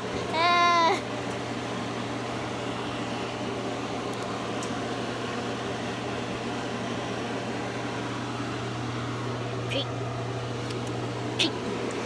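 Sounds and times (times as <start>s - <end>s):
appliance mechanical hum: 0.0s - 12.0s.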